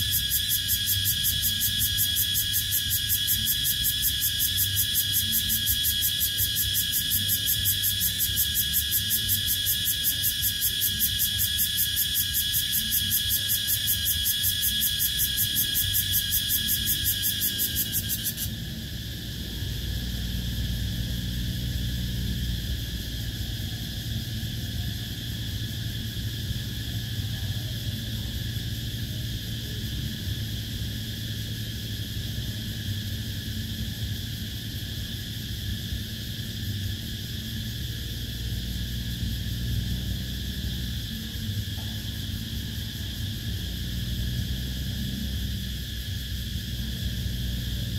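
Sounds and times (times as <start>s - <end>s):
cicada pulsing buzz: 0.0s - 47.9s
faint high insect drone: 0.0s - 47.9s.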